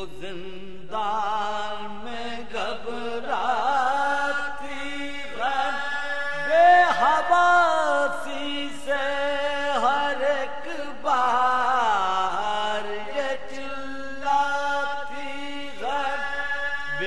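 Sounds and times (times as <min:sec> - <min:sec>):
man chanting with long held notes: 0:00.0 - 0:17.0.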